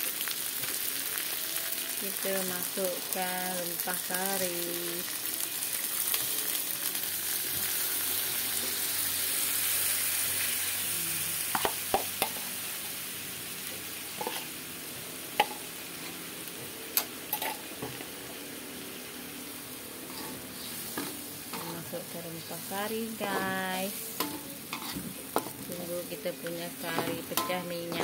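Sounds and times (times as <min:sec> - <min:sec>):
spice paste sizzling in oil: 0:00.0 - 0:28.0.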